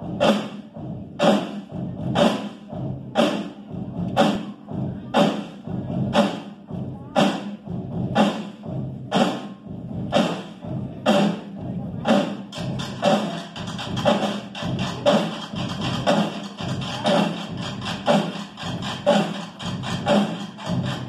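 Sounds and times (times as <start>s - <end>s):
marching snare drums: 0.0s - 21.0s.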